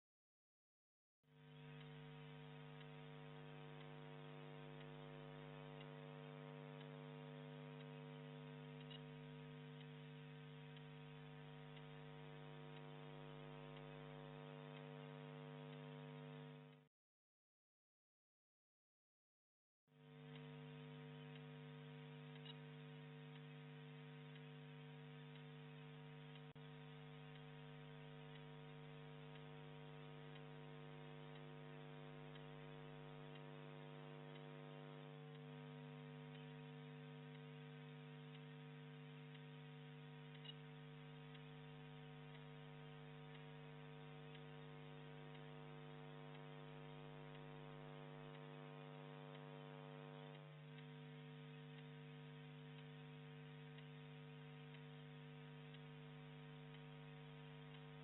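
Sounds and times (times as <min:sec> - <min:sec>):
faint electrical mains hum: 0:01.4 - 0:16.8, 0:20.0 - 0:58.0.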